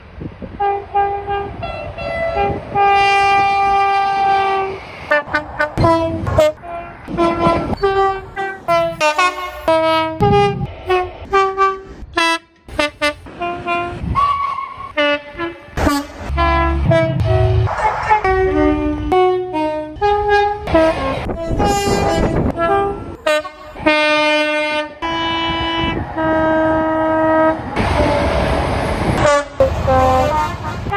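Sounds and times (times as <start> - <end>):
train horn blasts: 0.5 - 30.9.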